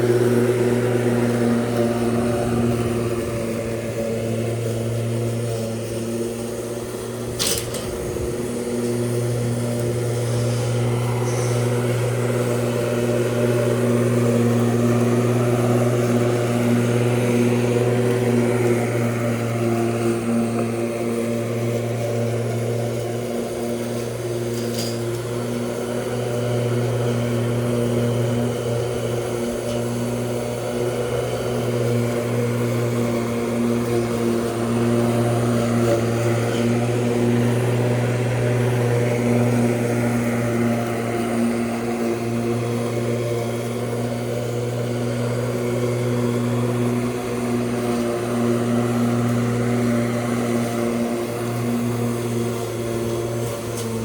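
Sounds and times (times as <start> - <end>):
lawn mower motor hum: 0.0 - 54.0.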